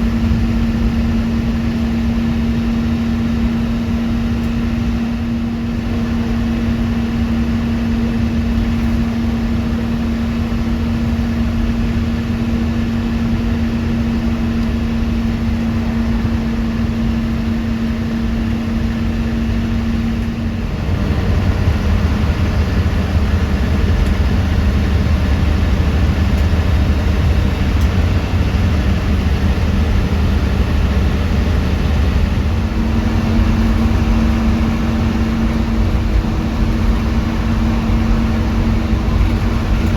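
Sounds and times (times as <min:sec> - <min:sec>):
bus engine hum: 0:00.0 - 0:39.9
low road rumble: 0:00.0 - 0:39.9.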